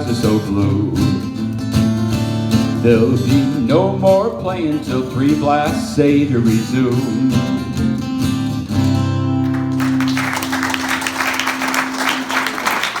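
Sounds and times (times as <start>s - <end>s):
acoustic guitar country song: 0.0s - 11.6s.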